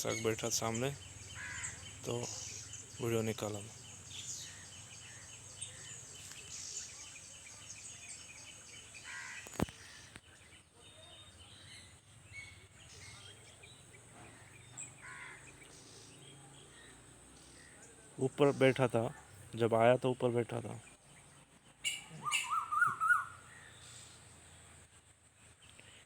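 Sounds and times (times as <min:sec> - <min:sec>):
bird chirps and calls: 0:00.0 - 0:24.6.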